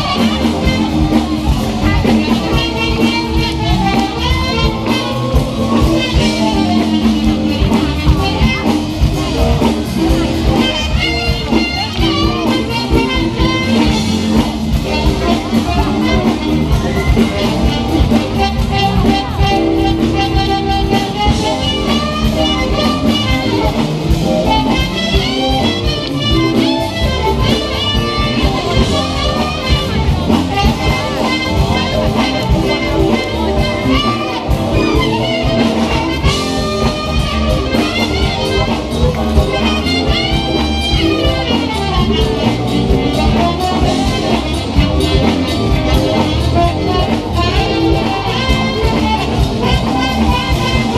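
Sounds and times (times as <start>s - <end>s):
bending melodic lead line: 0.0s - 50.9s
live band playing: 0.0s - 50.9s.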